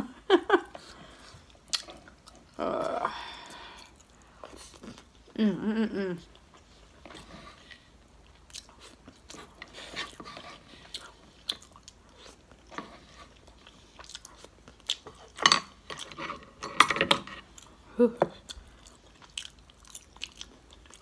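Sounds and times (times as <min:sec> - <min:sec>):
close chewing and crunching: 0:00.7 - 0:05.4, 0:06.2 - 0:21.0.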